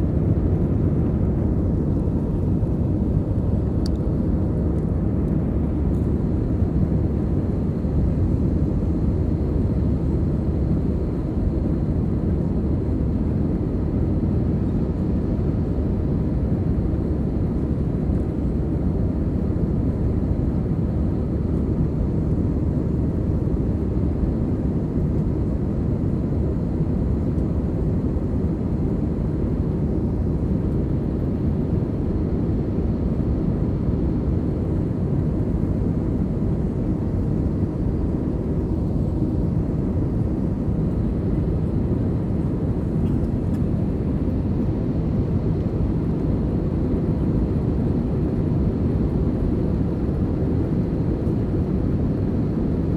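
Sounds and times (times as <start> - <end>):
jet engine low rumble: 0.0 - 52.9.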